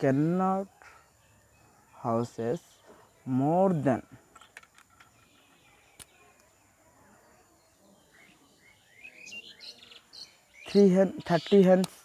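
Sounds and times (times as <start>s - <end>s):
faint bird chirps: 0.0s - 11.8s.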